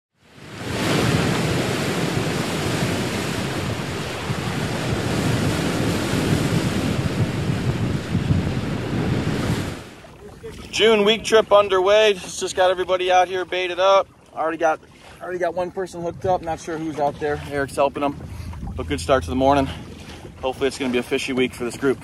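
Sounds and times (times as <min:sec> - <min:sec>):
ocean waves and surf: 0:00.1 - 0:22.0.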